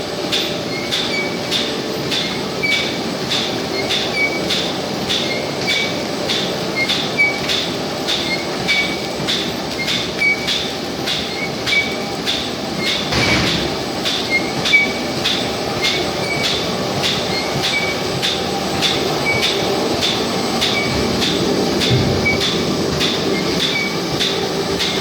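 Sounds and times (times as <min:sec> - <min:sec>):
cutting machine running: 0:00.0 - 0:25.0
regular machine clicks: 0:00.2 - 0:25.0.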